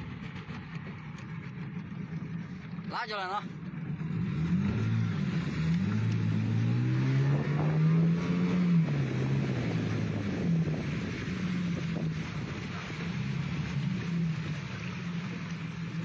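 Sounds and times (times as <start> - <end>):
motorboat engine running: 0.0 - 16.0.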